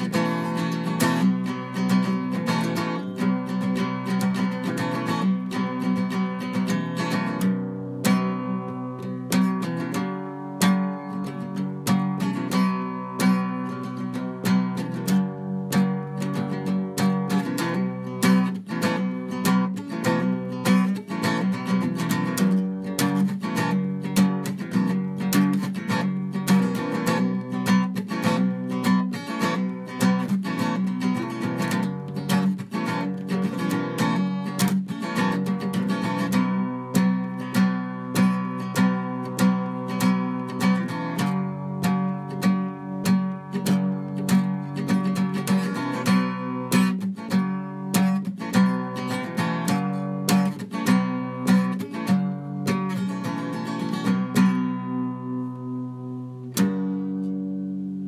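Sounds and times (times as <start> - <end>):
acoustic guitar music: 0.0 - 58.0.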